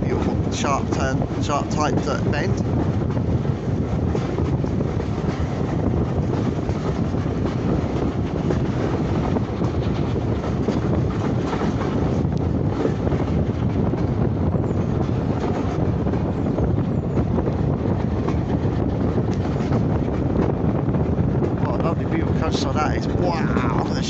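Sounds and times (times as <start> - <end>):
train wheels rumbling on track: 0.0 - 24.0
wind buffeting microphone: 0.0 - 24.0.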